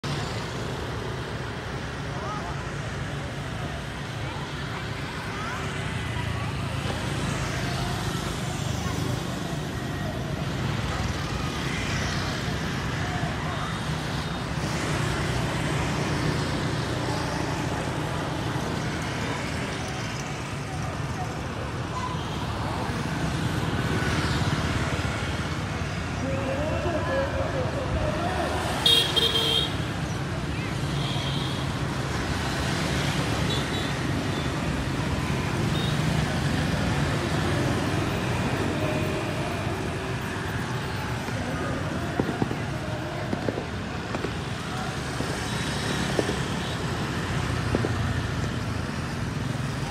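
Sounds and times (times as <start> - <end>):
street traffic hum: 0.0 - 49.9
scooters passing: 0.1 - 49.9.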